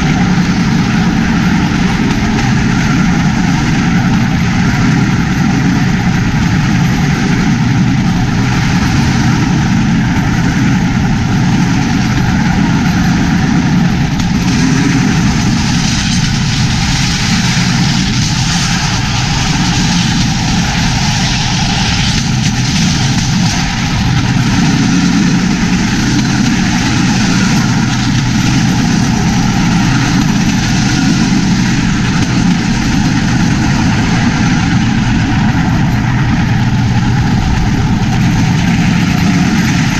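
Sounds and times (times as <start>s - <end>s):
rail ride rumble: 0.0s - 39.9s
small engine running: 0.0s - 39.9s.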